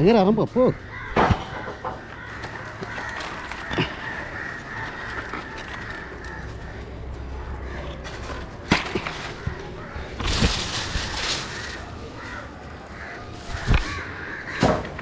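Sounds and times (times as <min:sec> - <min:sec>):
rustling gust: 0:00.7 - 0:14.2.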